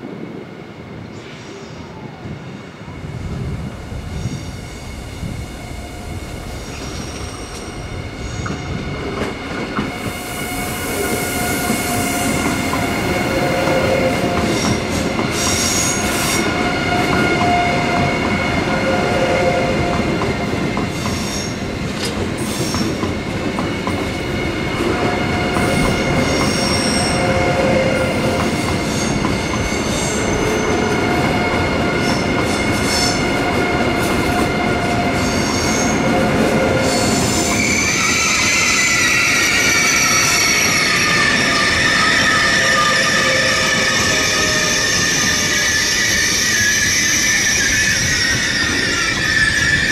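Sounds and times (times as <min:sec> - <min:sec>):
train wheels squealing on rails: 0:01.1 - 0:49.9.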